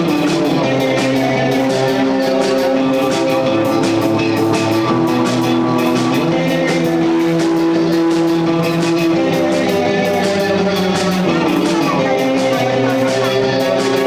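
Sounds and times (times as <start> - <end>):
drum kit with cymbals: 0.0 - 14.0
sustained guitar notes: 0.0 - 14.0.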